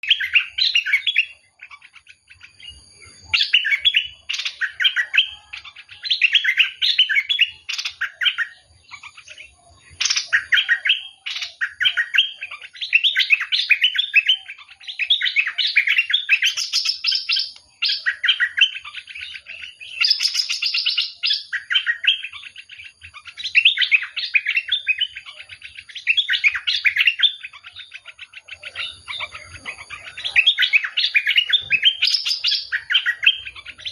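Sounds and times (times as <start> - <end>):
songbird chirping phrases: 0.0 - 33.9.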